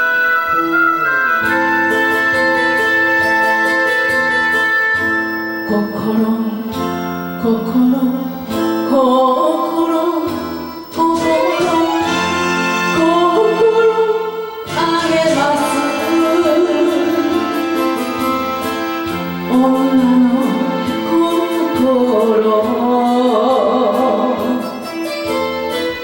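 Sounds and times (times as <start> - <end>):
karaoke ballad with vibrato melody: 0.0 - 26.0.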